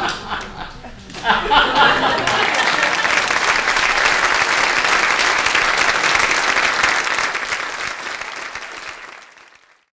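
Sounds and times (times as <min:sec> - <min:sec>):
audience applauding: 0:01.2 - 0:09.9.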